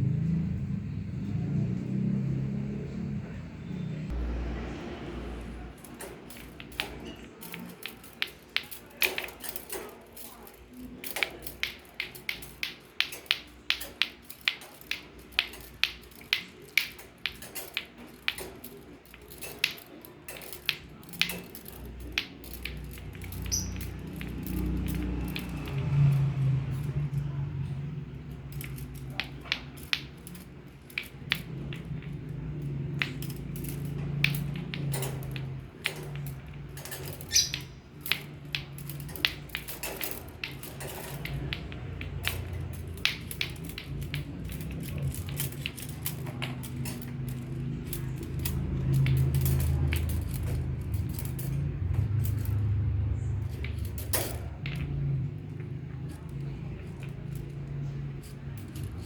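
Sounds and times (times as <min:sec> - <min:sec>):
steady low hum: 0:00.0 - 0:59.0
clacker balls clicking and knocking: 0:04.1 - 0:59.0.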